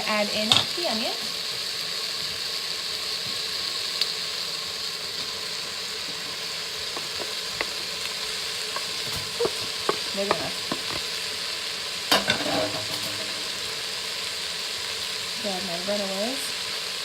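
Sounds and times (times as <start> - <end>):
meat and onion sizzling: 0.0 - 17.0.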